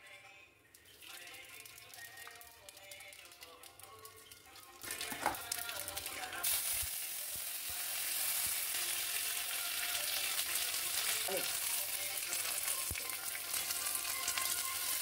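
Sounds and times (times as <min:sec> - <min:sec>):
spices sizzling in hot oil: 0:00.9 - 0:15.0.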